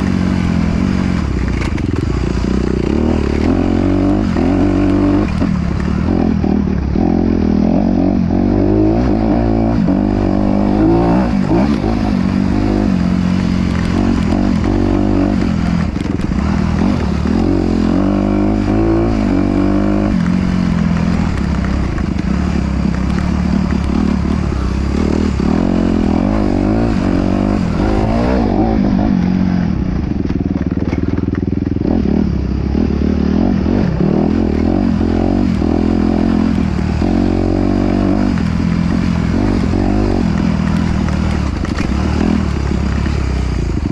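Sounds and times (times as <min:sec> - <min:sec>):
clatter and scraping: 0:00.0 - 0:06.9, 0:09.9 - 0:31.8, 0:34.3 - 0:43.9
off-road engine revving: 0:00.0 - 0:43.9.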